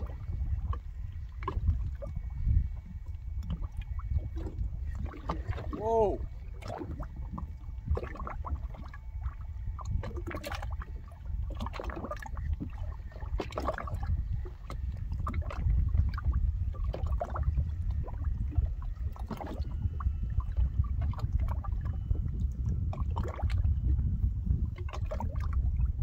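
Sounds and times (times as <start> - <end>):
low wind rumble on microphone: 0.0 - 26.0
water lapping against boat hull: 0.0 - 26.0.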